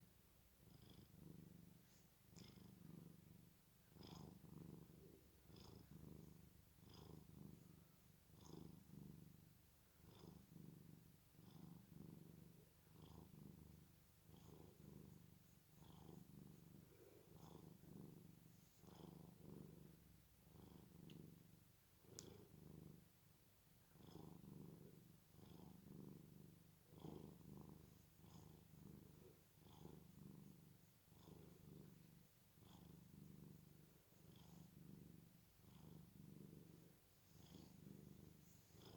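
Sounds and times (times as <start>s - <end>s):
cat snoring: 0.6s - 1.7s, 2.3s - 21.2s, 23.9s - 38.9s.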